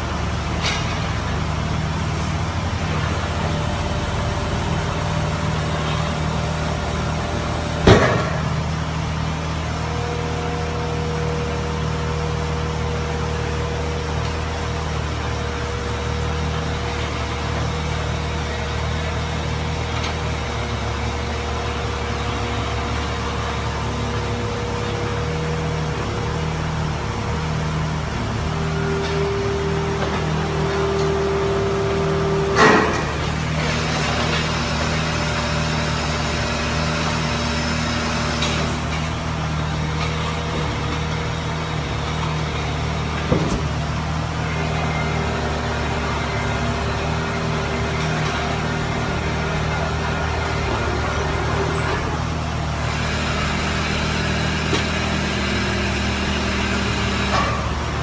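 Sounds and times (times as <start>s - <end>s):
steady machine whine: 0.0s - 58.0s.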